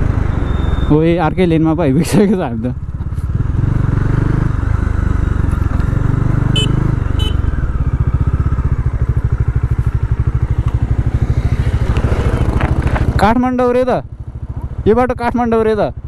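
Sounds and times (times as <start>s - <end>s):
motorcycle engine running: 1.5s - 16.0s.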